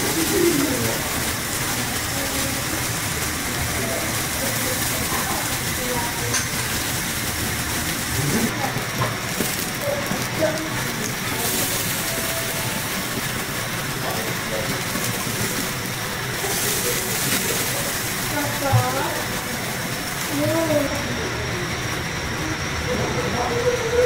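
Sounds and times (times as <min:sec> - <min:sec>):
faint talk: 0:00.0 - 0:06.9, 0:07.6 - 0:24.0
meat sizzling on a grill: 0:00.0 - 0:24.0.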